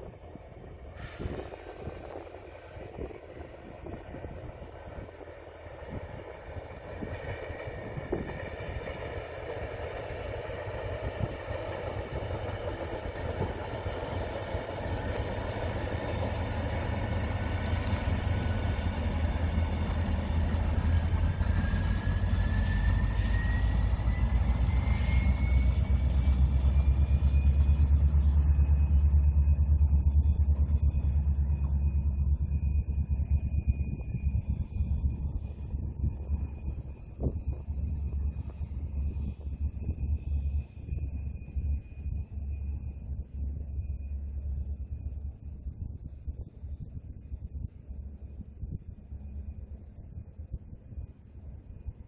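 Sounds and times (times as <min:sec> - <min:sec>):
diesel locomotive engine rumble: 0:00.0 - 0:52.0
high whine: 0:00.0 - 0:52.0.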